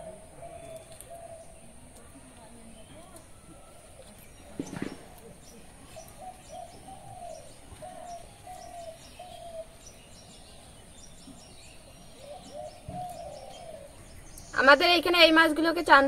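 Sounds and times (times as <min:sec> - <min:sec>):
bird calling: 0:00.0 - 0:15.7.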